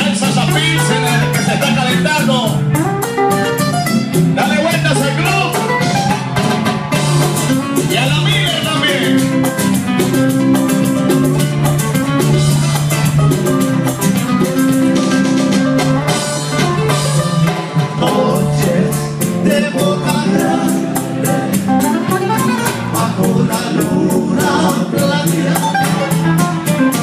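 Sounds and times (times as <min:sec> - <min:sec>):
latin trio music with guitars: 0:00.0 - 0:27.0.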